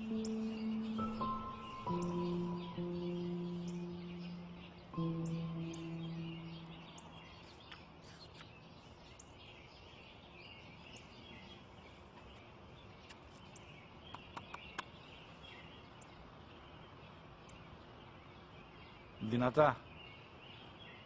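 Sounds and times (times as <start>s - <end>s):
low steady hiss: 0.0s - 21.0s
small birds chirping: 0.0s - 21.0s.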